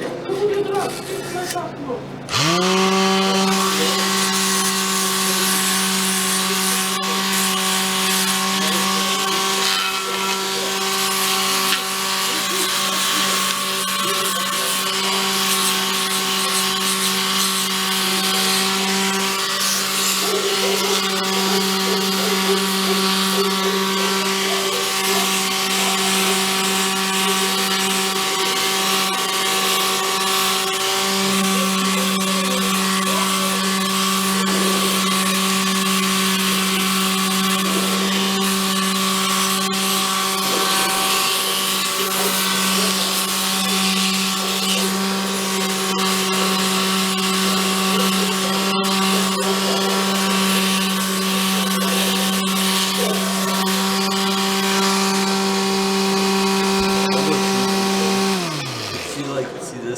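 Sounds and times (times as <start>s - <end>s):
electric sander motor hum: 0.0s - 59.7s
rough hiss of sanding: 3.3s - 55.3s.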